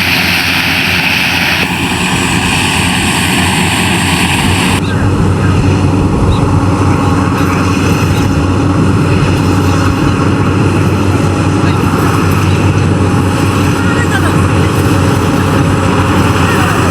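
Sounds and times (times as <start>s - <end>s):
combine harvester running: 0.0s - 16.9s.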